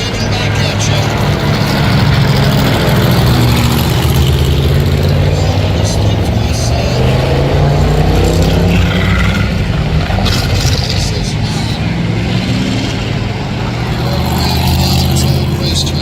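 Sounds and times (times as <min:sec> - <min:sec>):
car engines passing: 0:00.0 - 0:16.0.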